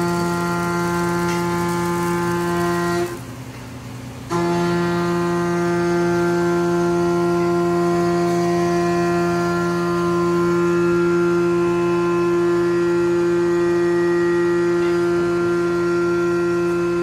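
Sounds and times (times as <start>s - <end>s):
coolant spray hissing: 0.0s - 14.7s
milling machine whine: 0.0s - 17.0s.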